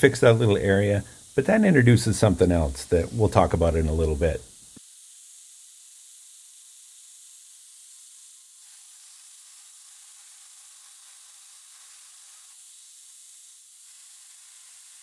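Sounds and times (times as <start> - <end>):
belt grinder hissing on steel: 0.0 - 15.0.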